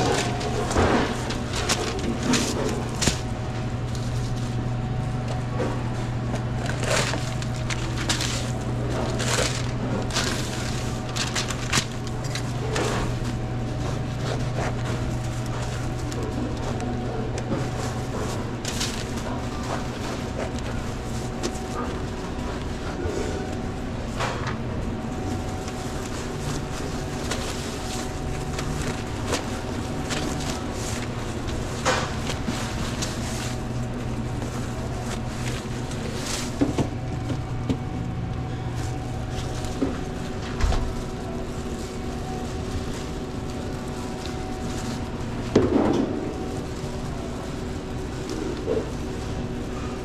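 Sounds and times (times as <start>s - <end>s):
equipment humming: 0.0s - 50.0s.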